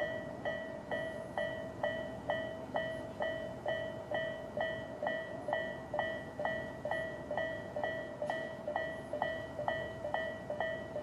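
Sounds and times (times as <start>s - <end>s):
level crossing warning bell: 0.0s - 11.0s.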